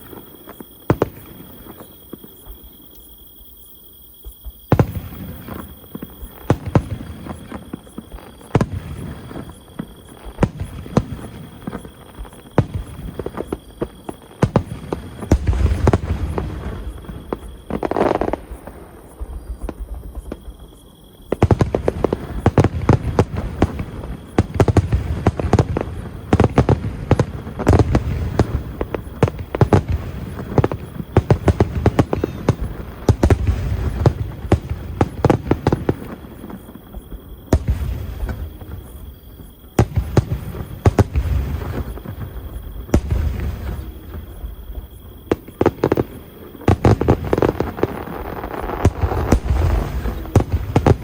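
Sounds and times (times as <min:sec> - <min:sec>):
fireworks booming: 0:00.0 - 0:02.7, 0:04.2 - 0:51.0
fireworks crackling: 0:04.7 - 0:51.0.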